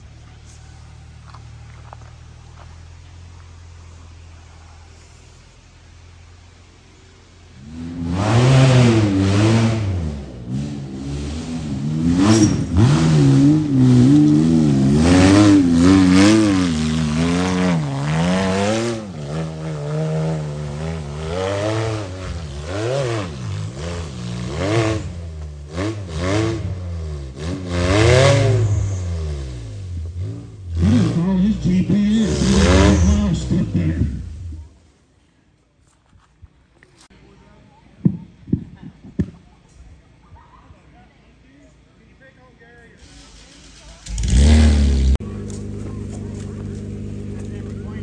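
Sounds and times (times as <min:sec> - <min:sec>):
buggy engine revving: 0:00.0 - 0:34.9, 0:42.9 - 0:48.0.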